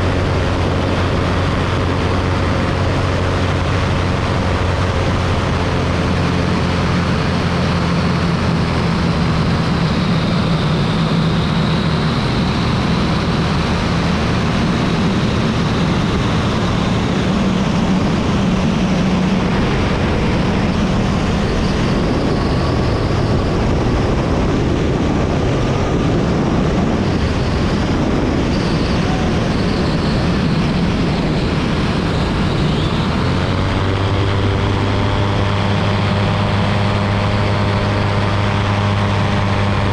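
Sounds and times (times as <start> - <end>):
aircraft engine and propeller droning: 0.0 - 39.9
wind rush: 0.0 - 39.9.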